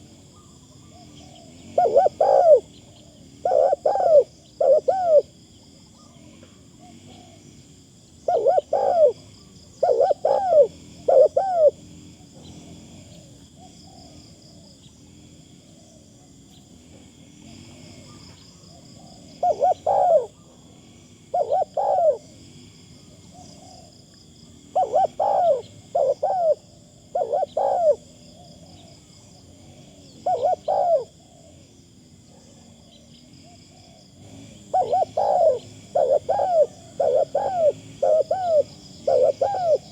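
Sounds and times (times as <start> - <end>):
dove cooing: 0.0 - 5.4, 6.0 - 7.5, 8.2 - 12.4, 13.0 - 14.8, 17.5 - 20.6, 21.3 - 22.4, 23.1 - 31.6, 32.3 - 39.9
faint high-pitched whir: 0.0 - 39.9.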